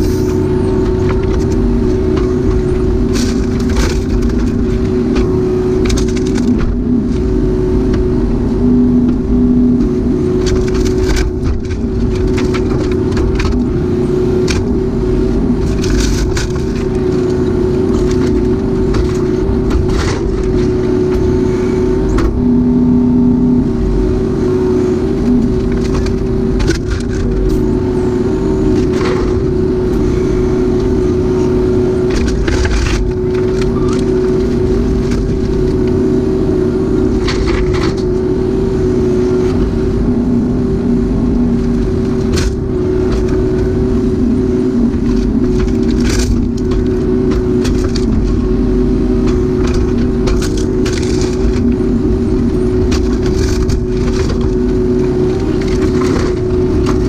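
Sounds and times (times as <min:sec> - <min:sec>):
constant whine: 0:00.0 - 0:57.0
excavator diesel engine: 0:00.0 - 0:57.0.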